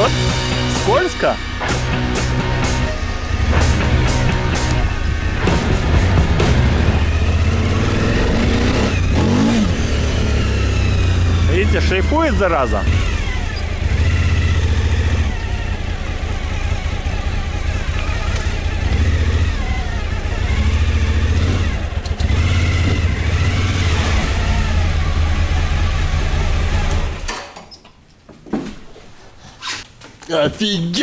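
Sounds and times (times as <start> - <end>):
motorcycle engine revving: 0.0 - 27.3.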